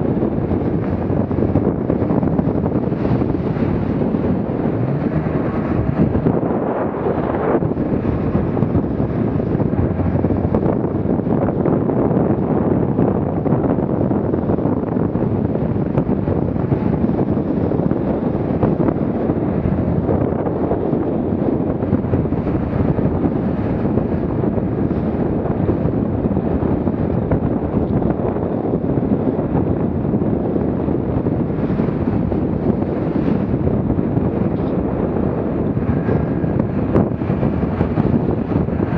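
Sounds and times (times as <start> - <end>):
motorboat rushing through water: 0.0 - 38.9
wind buffeting microphone: 0.0 - 38.9.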